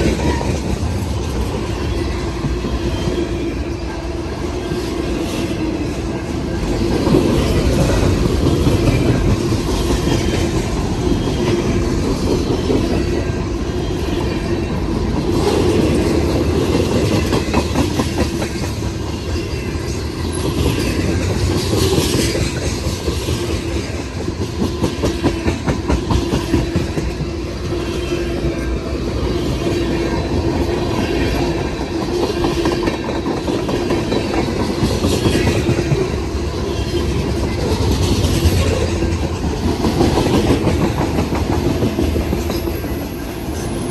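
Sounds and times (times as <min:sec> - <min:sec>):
wheels screeching on rail: 0:00.0 - 0:43.9
train wheels clicking over rail joints: 0:04.5 - 0:43.9.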